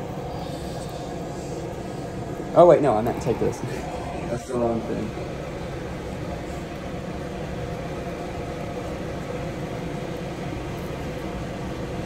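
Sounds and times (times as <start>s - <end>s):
fan running: 0.0s - 12.0s.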